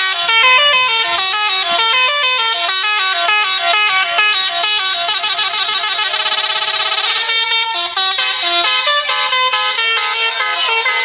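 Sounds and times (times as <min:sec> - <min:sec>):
bus musical horn playing tune: 0:00.0 - 0:11.0.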